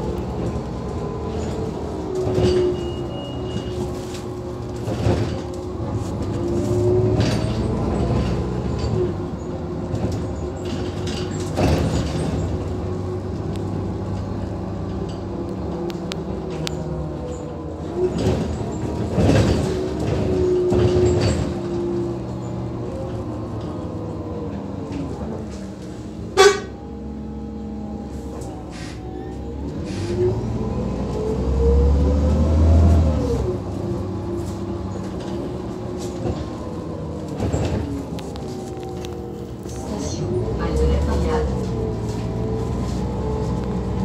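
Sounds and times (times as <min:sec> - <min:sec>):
bus body clunking and rattling: 0:00.0 - 0:44.0
bus engine humming: 0:00.0 - 0:44.0.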